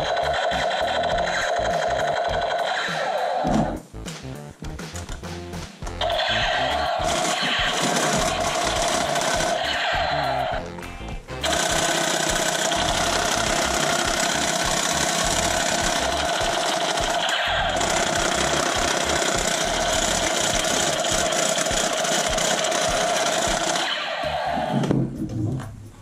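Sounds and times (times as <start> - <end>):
toy gun firing rapidly: 0.0 - 3.4, 6.0 - 10.5, 11.4 - 24.8.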